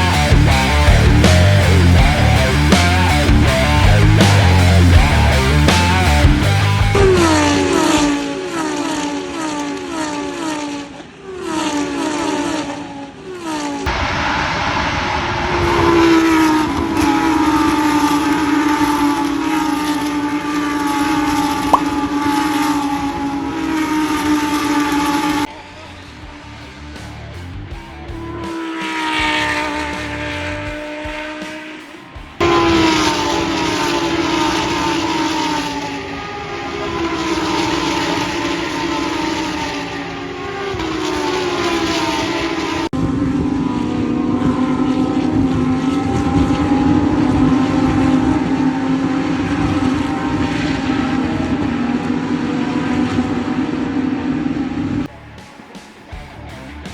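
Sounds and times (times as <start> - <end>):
race car engines droning: 0.0 - 56.9.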